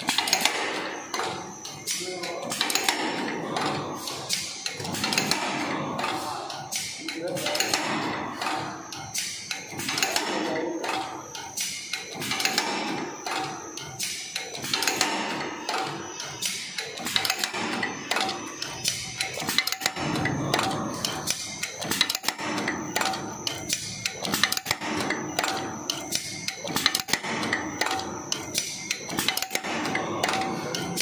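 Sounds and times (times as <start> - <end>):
machine clicking and clacking: 0.0 - 31.0.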